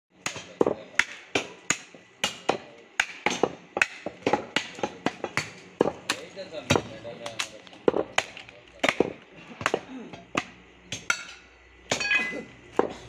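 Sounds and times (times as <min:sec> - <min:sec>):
cleaver chopping meat on wood: 0:00.2 - 0:11.3.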